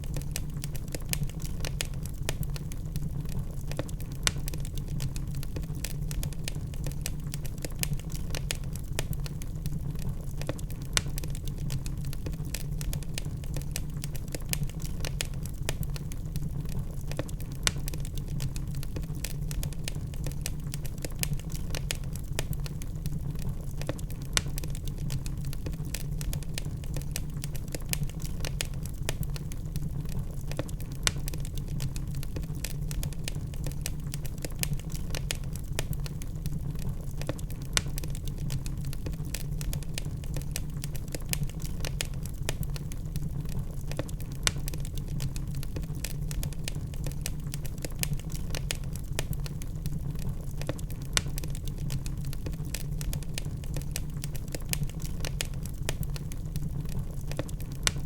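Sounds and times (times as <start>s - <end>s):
logs burning in fireplace: 0.0s - 58.0s.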